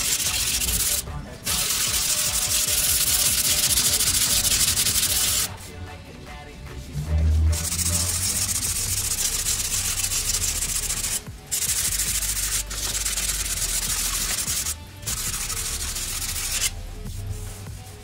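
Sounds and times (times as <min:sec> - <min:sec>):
sandpaper scratching on filler: 0:00.0 - 0:05.9, 0:06.6 - 0:18.0.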